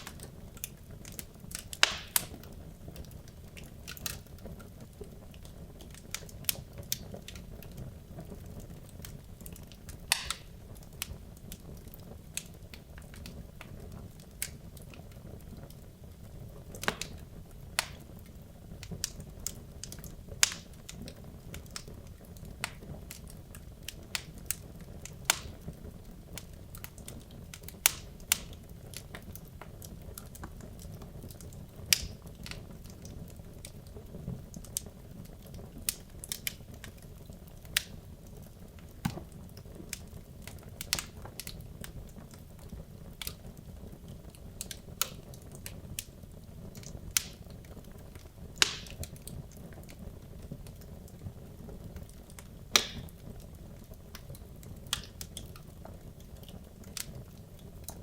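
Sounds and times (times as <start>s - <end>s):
logs crackling and popping: 0.0s - 58.0s
low rumble of flames: 0.0s - 58.0s.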